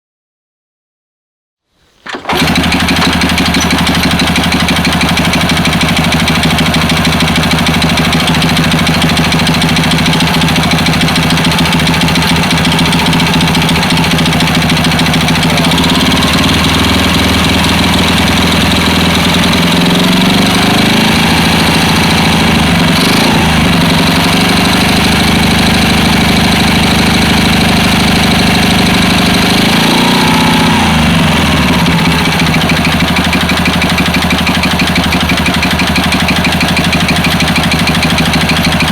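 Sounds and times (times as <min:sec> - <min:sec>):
motorcycle engine knocking: 0:02.1 - 0:38.9.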